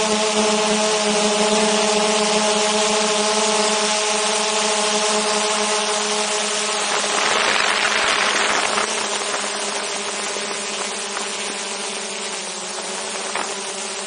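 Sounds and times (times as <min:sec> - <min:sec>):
drone propellers buzzing: 0:00.0 - 0:14.0.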